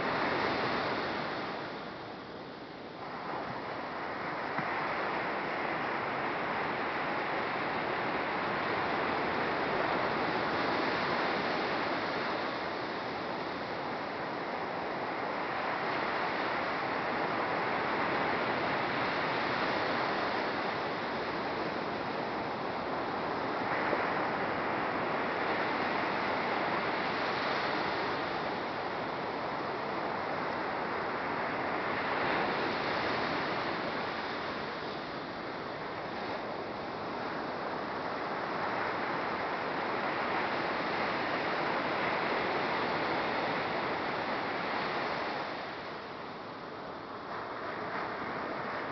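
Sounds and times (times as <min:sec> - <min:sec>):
surf breaking on a beach: 0:00.0 - 0:48.9.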